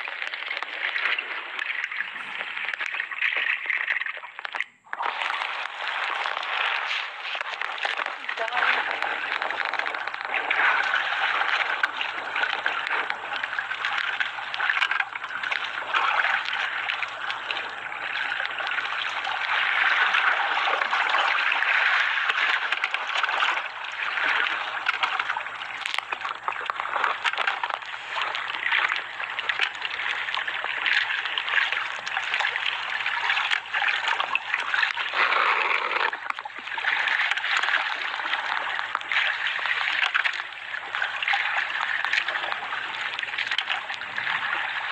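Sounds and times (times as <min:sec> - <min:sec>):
water splashing against boat hull: 0:00.0 - 0:44.9.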